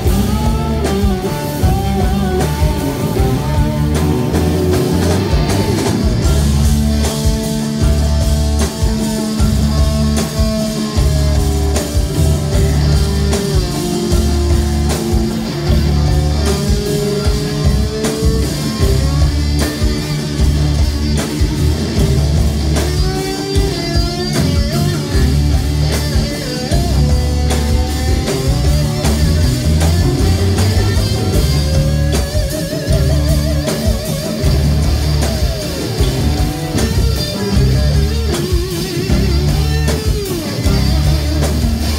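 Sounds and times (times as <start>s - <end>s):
bass guitar: 0.0s - 41.9s
drums: 0.0s - 41.9s
lead guitar solo with string bends: 0.0s - 41.9s.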